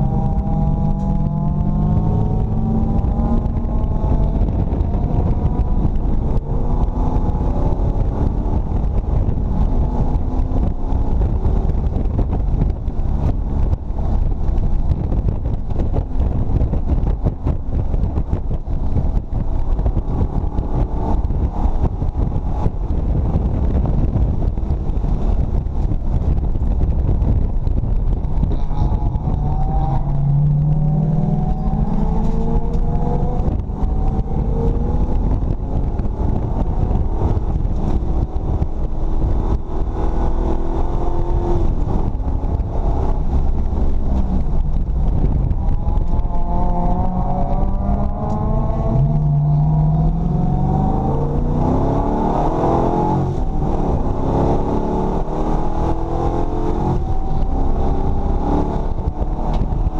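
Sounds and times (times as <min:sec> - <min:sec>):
race car engine accelerating: 0:00.0 - 0:59.9
road and wind noise: 0:00.0 - 0:59.9.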